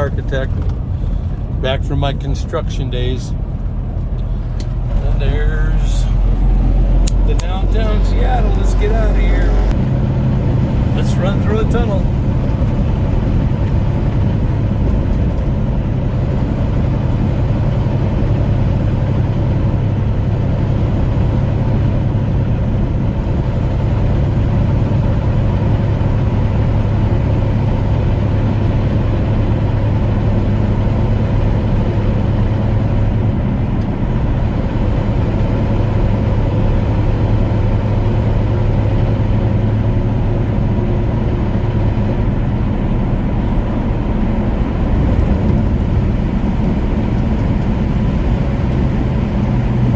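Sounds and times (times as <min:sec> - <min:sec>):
road noise: 0:00.0 - 0:49.9
truck engine drone: 0:00.0 - 0:49.9.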